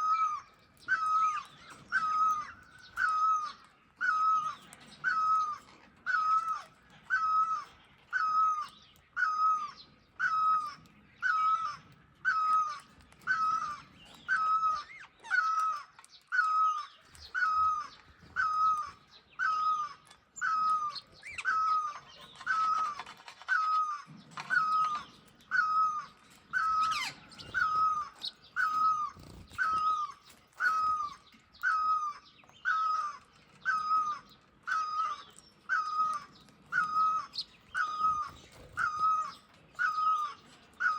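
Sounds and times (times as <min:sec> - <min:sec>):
bird giving hoarse calls: 0:00.0 - 0:40.9.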